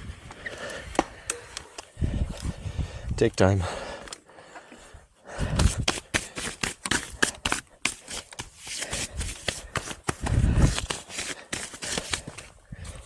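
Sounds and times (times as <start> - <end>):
rider breathing heavily: 0.2 - 13.0.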